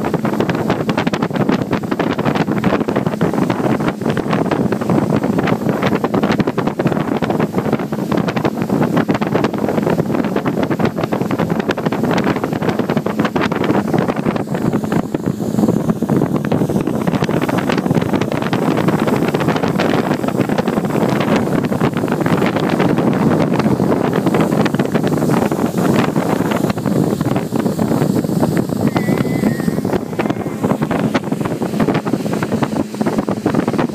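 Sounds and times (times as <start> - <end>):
motorboat rushing through water: 0.0 - 33.9
wind buffeting microphone: 0.0 - 33.9.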